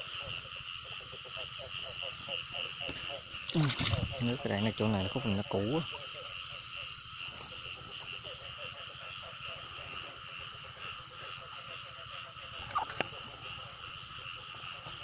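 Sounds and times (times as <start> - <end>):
frogs and insects calling: 0.0 - 15.0.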